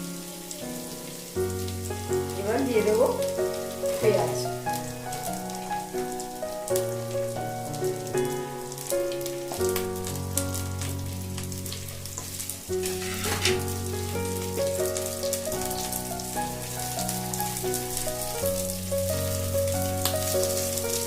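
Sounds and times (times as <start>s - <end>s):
background music: 0.0s - 21.0s
onions sizzling in oil: 0.0s - 21.0s.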